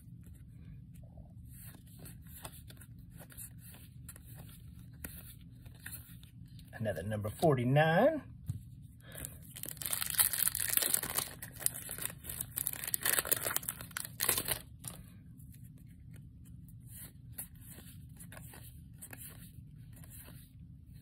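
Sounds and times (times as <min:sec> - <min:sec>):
trading cards rustling and flicking: 0:01.4 - 0:06.7, 0:08.5 - 0:21.0.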